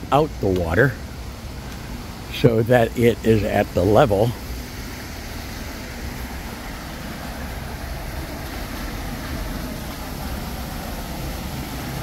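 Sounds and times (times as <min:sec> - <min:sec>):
water rushing out of lock: 0:00.0 - 0:12.0.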